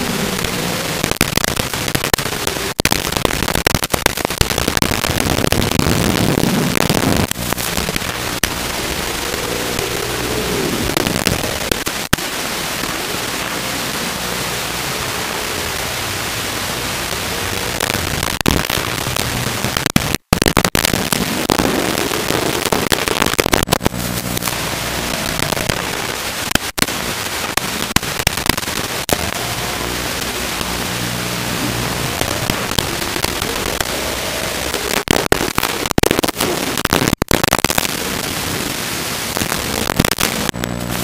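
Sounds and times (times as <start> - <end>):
crackles and clicks: 0.0 - 41.0
radio static hiss: 0.0 - 41.0.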